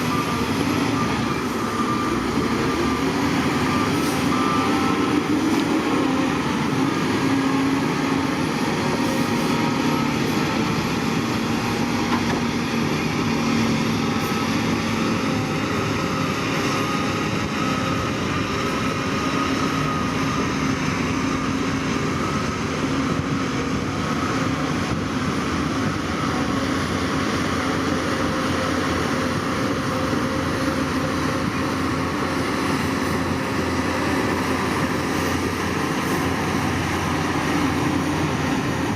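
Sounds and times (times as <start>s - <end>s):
heavy diesel machinery engine drone: 0.0s - 38.9s.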